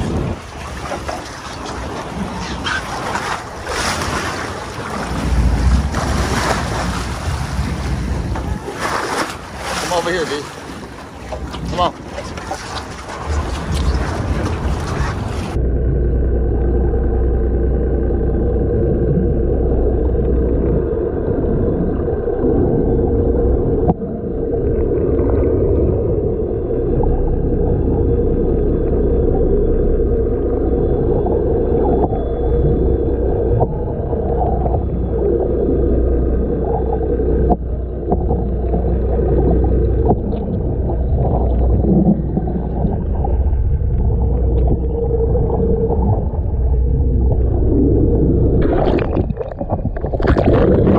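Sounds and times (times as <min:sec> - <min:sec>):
muffled boat engine drone: 0:00.0 - 0:50.9
water gurgling and sloshing: 0:00.0 - 0:50.9.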